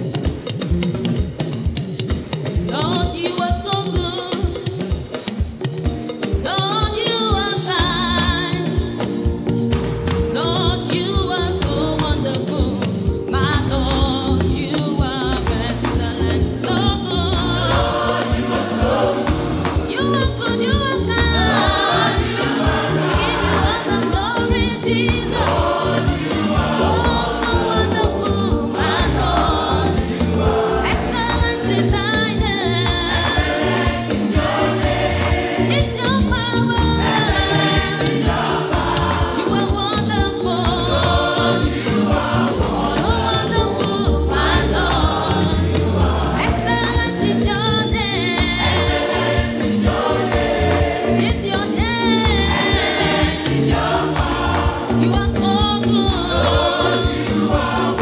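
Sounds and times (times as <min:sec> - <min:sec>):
choir singing over a band: 0:07.4 - 0:58.0.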